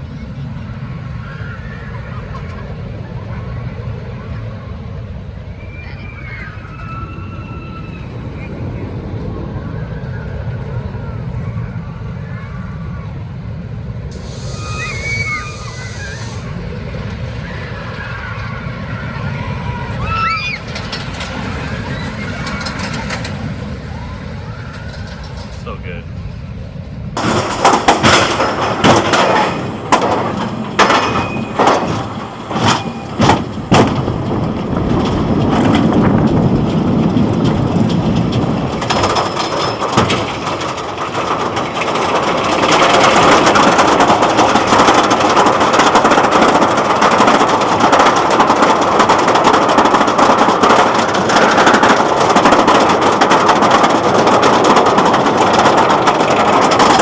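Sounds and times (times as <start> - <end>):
roller coaster clacking: 0.0 - 57.0
roller coaster rumble: 0.0 - 57.0
rush of wind and track noise: 0.0 - 57.0.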